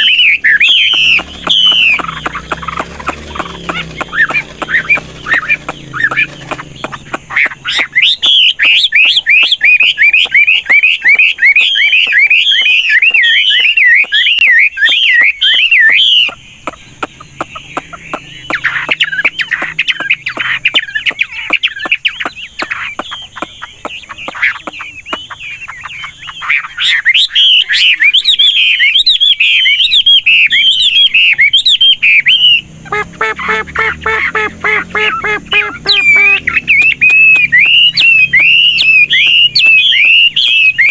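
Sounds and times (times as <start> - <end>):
bird chatter with clicks: 0.0 - 31.7, 34.6 - 40.9
bird warbling song: 0.0 - 40.9
buzzy nasal bird call: 0.0 - 40.9.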